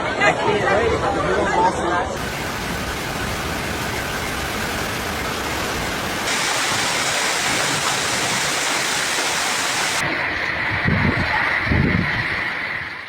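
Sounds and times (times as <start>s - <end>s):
torrential rain pouring: 2.2s - 13.0s.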